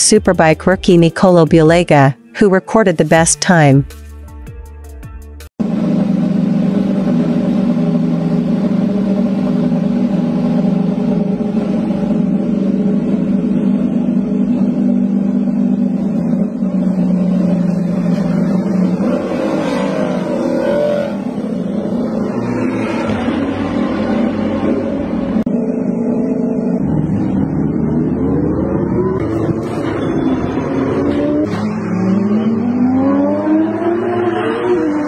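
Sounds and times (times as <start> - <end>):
motorcycle engine revving: 5.6 - 35.0.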